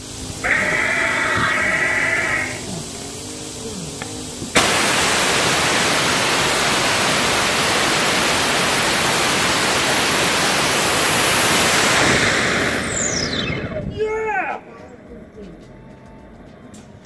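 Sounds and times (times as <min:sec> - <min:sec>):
rocket engine rushing hiss: 0:00.0 - 0:15.4.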